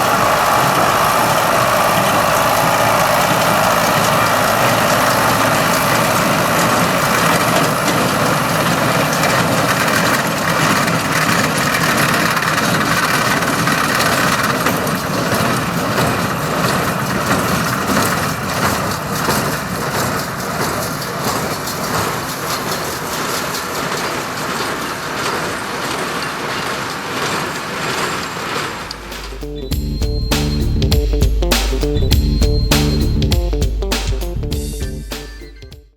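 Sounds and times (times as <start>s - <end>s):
square baler working: 0.0s - 35.7s
tractor diesel engine running: 0.0s - 35.7s.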